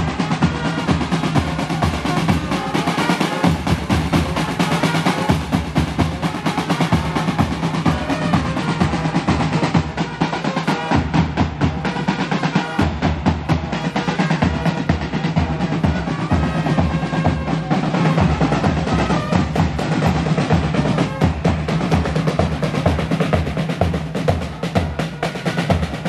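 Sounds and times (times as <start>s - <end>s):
marching band playing: 0.0s - 26.0s
snare and bass drums beating: 0.0s - 26.0s.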